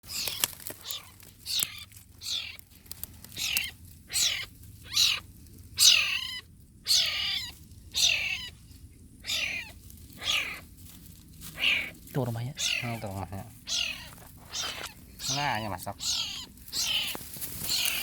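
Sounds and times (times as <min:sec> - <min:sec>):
kitten mewing: 0:00.1 - 0:02.6, 0:03.4 - 0:05.2, 0:05.8 - 0:08.6, 0:09.2 - 0:10.6, 0:11.6 - 0:18.0.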